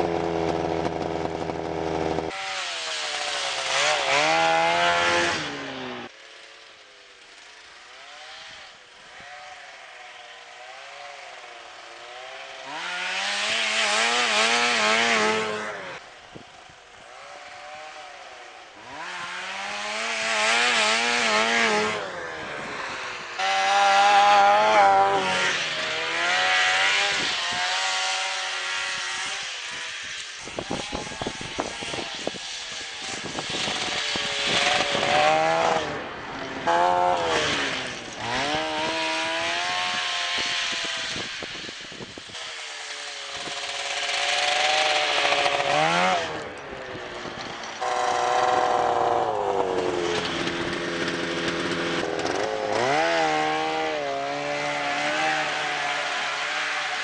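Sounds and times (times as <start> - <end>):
snowmobile engines revving past: 0.0 - 6.2, 7.2 - 57.0.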